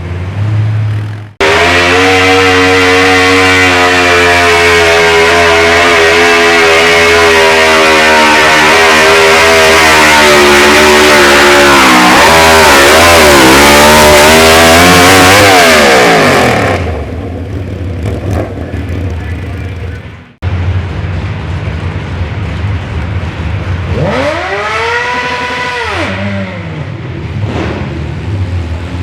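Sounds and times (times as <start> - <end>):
tractor engine revving hard: 0.0 - 20.4, 23.3 - 29.0.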